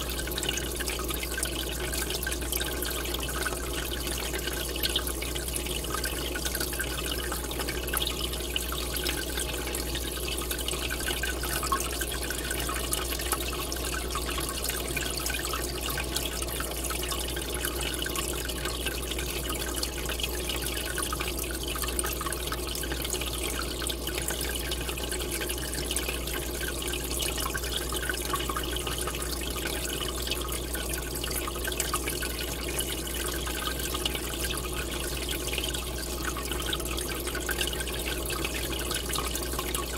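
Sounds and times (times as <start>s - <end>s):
aquarium air bubbler bubbling: 0.0s - 39.9s.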